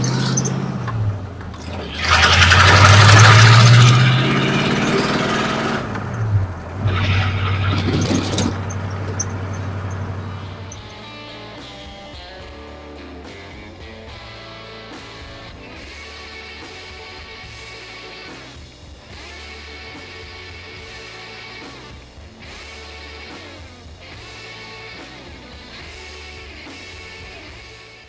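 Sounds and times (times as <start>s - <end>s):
instrumental rock with guitar: 0.0s - 28.0s.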